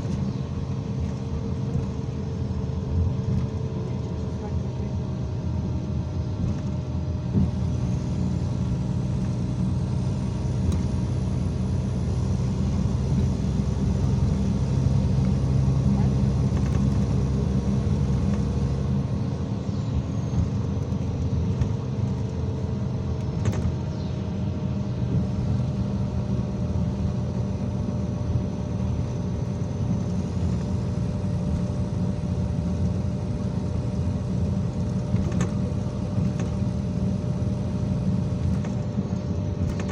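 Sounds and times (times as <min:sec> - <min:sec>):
bus engine hum with road noise: 0:00.0 - 0:39.9.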